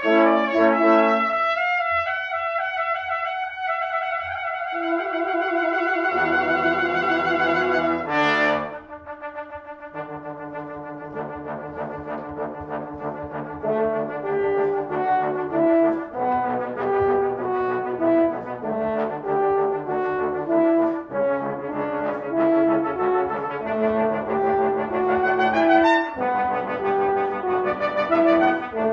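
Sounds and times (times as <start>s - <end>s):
brass quintet playing: 0.0s - 28.9s.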